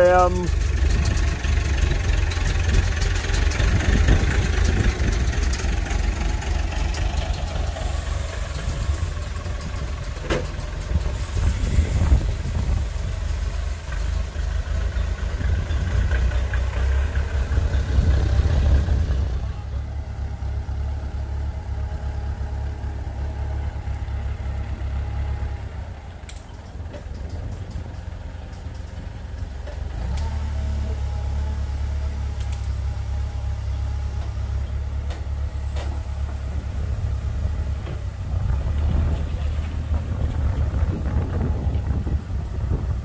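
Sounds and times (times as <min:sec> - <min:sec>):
forklift engine running: 0:00.0 - 0:43.0.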